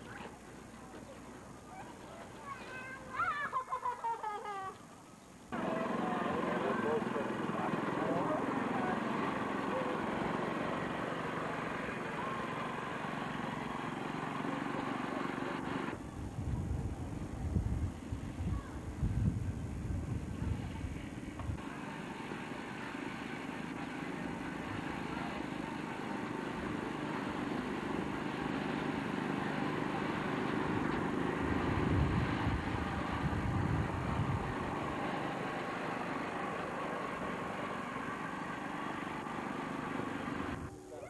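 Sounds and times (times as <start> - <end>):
vehicle engine rumbling: 5.5 - 40.9.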